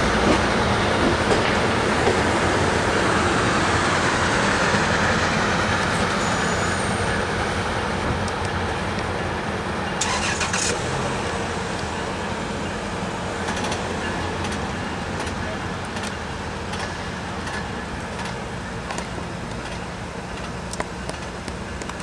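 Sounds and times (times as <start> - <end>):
train coaches rolling past: 0.0 - 22.0.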